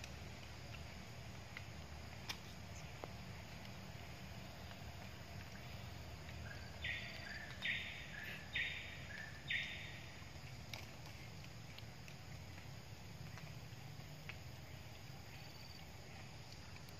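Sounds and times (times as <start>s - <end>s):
low background rumble: 0.0s - 16.9s.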